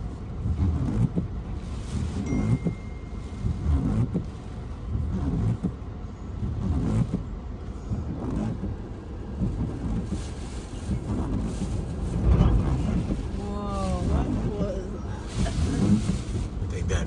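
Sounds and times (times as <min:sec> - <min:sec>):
wind buffeting a vehicle: 0:00.0 - 0:17.0.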